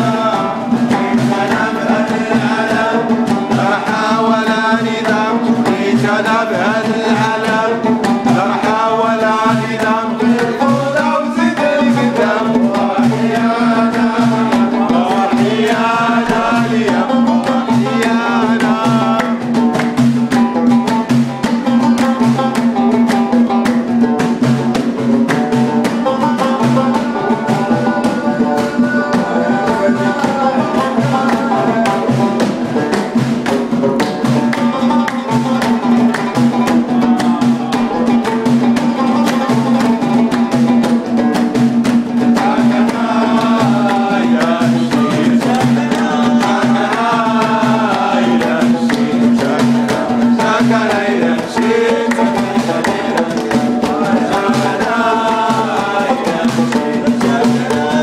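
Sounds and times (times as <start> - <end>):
man singing: 0.0 - 20.8, 25.9 - 40.8, 42.2 - 58.0
banjo playing a steady beat: 0.0 - 58.0.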